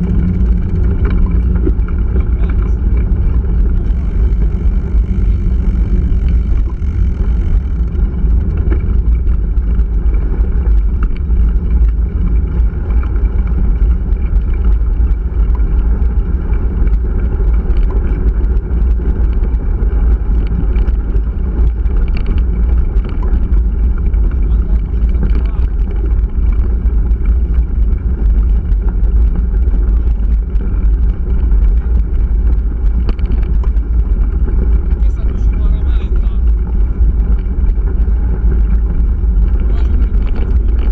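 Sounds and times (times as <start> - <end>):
bike clicks and rattles: 0.0 - 40.9
wind buffeting microphone: 0.0 - 40.9.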